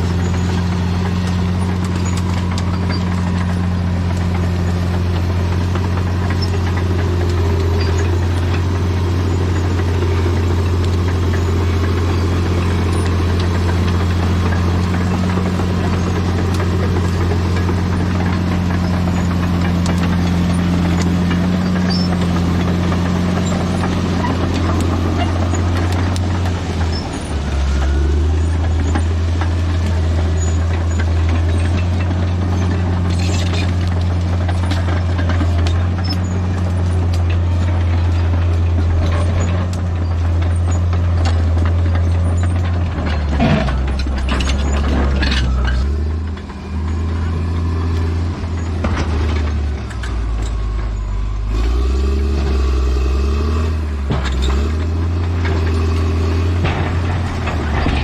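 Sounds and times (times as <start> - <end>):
bulldozer diesel engine running: 0.0 - 58.0
metallic squeals and clanks: 0.0 - 58.0.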